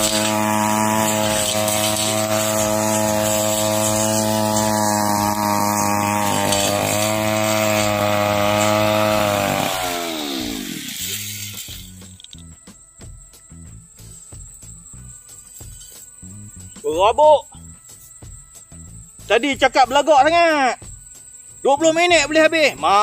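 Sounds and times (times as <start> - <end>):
brush cutter engine: 0.0 - 12.6, 14.0 - 23.0.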